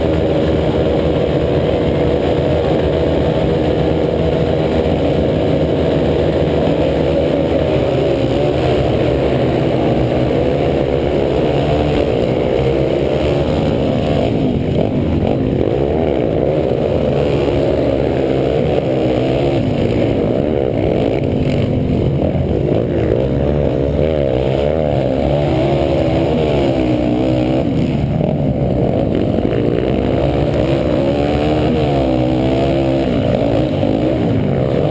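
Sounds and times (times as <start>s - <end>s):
motocross motorcycles revving: 0.0s - 34.9s.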